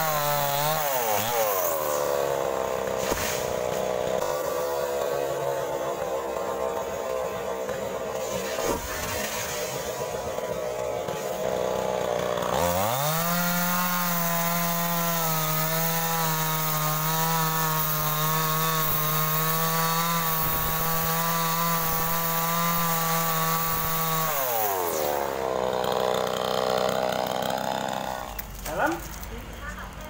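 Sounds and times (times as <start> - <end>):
chainsaw cutting wood: 0.0 - 29.3.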